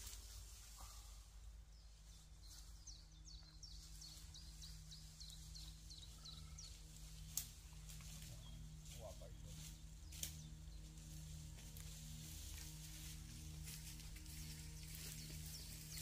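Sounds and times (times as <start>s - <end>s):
faint bird song: 0.0s - 16.0s
low steady hum: 0.0s - 16.0s.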